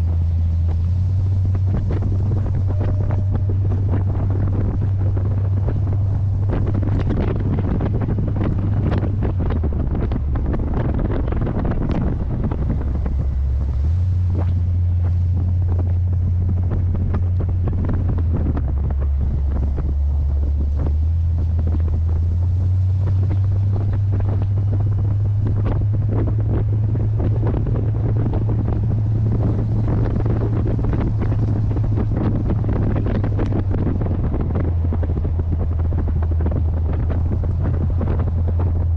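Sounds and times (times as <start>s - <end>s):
car engine droning: 0.0s - 38.9s
wind buffeting microphone: 0.0s - 38.9s.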